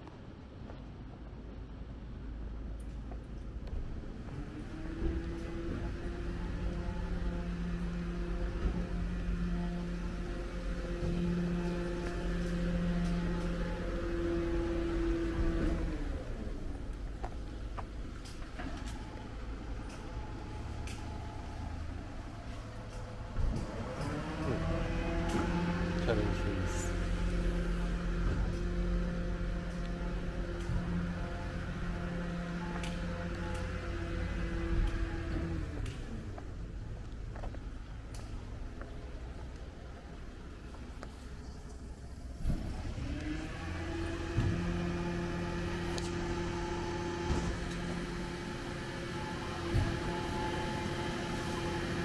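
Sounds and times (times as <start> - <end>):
vehicle engine humming: 0.0 - 52.0.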